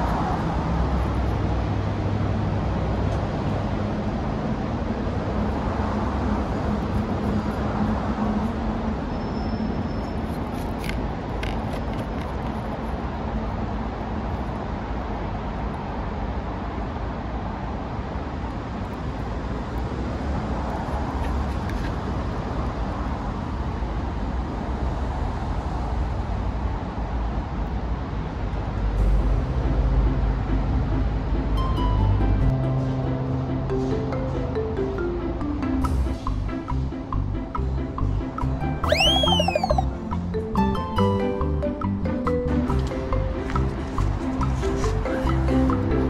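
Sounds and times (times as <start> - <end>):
distant road traffic hum: 0.0 - 46.0.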